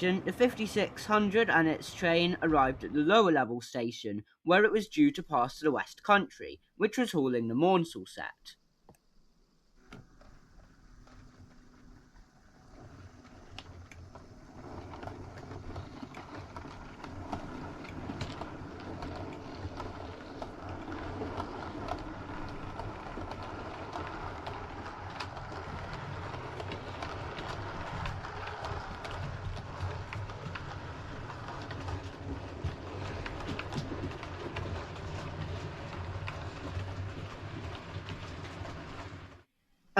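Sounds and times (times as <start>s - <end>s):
wheels clicking on rails: 0.0s - 3.2s, 9.6s - 39.5s
model train running on track: 0.0s - 3.6s, 9.6s - 39.5s.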